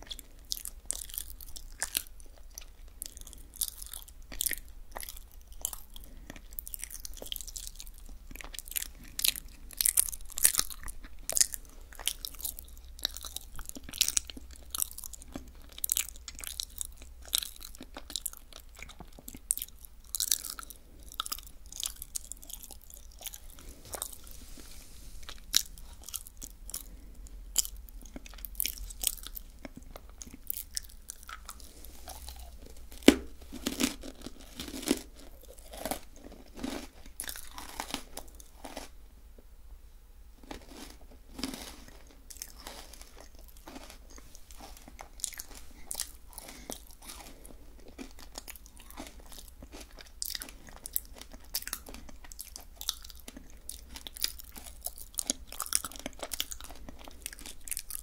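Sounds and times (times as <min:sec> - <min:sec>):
chewing crunchy sweets: 0:00.0 - 0:39.0, 0:40.4 - 0:58.0.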